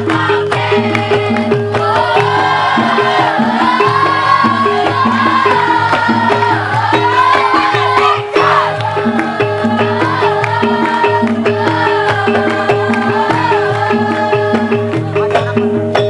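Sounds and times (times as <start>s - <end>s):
drums: 0.0s - 16.0s.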